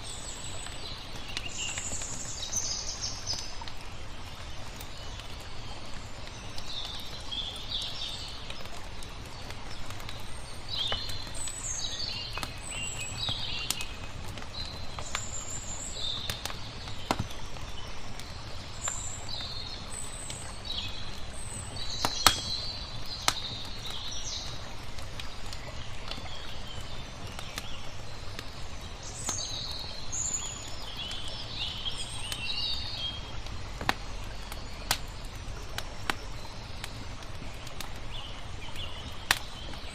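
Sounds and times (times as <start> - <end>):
rumble of water: 0.0 - 39.9
songbirds chirping: 0.0 - 39.9
wood fire crackling pops: 0.6 - 2.6, 3.2 - 39.9.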